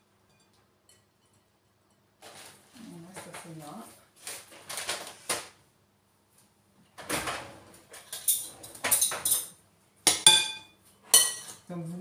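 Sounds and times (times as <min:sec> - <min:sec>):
rustling and clatter in kitchen: 0:00.2 - 0:12.0.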